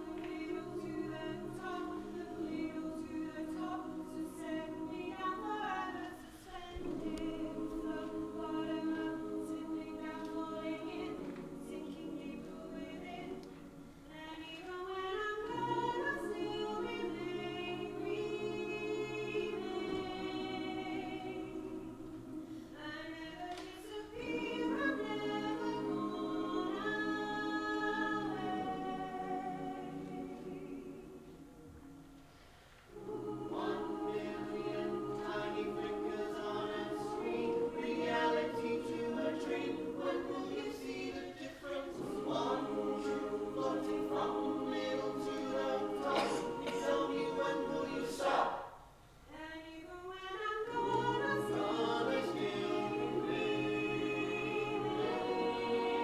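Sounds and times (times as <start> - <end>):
voices singing in harmony: 0.0 - 56.0.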